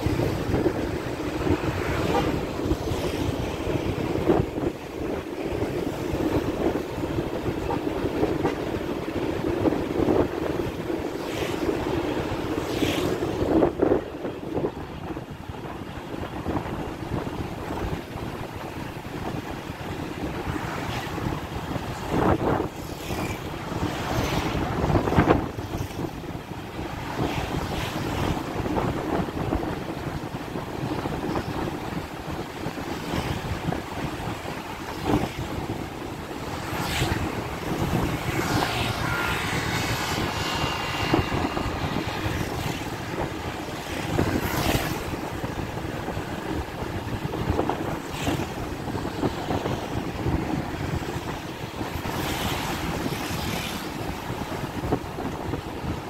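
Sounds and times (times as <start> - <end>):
motorcycles passing: 0.0 - 14.2, 18.4 - 55.9
road and wind noise: 0.0 - 56.0.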